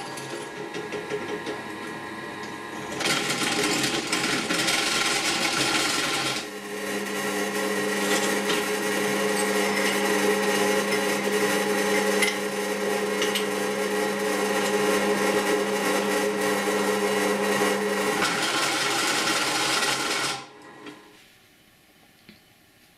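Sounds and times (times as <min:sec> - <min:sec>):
drill press motor running: 0:00.0 - 0:21.0.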